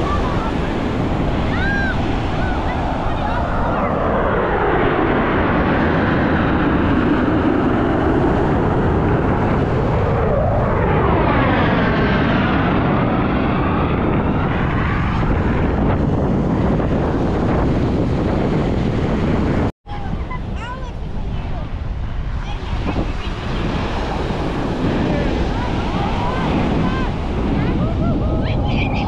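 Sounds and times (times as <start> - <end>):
fighter jets flying past: 0.0 - 29.0.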